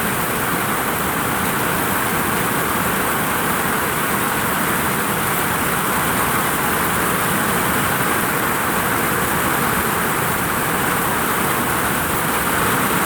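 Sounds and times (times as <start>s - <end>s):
heavy rain on a vinyl roof: 0.0s - 13.0s.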